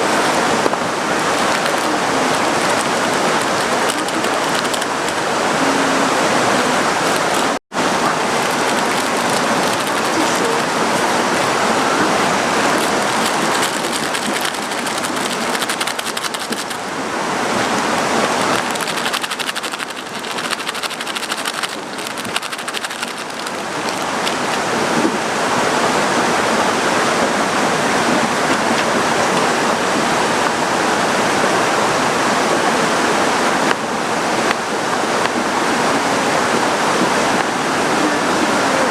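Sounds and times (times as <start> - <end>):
heavy rain hissing: 0.0 - 38.9
running water: 0.0 - 38.9.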